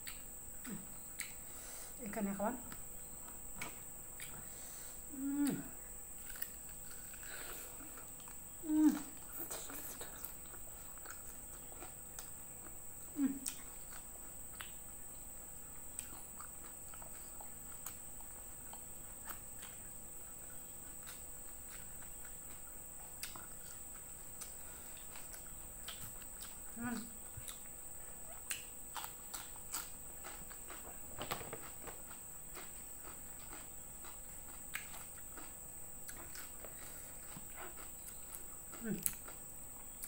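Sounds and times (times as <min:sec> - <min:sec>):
chewing food: 0:00.0 - 0:01.9, 0:02.6 - 0:40.0.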